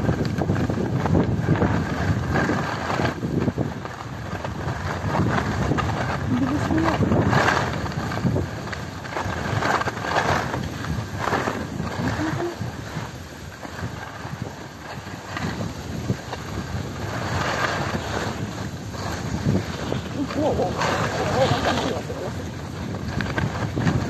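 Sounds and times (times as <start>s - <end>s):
skis scraping on snow: 0.0s - 24.0s
wind buffeting microphone: 0.0s - 24.0s.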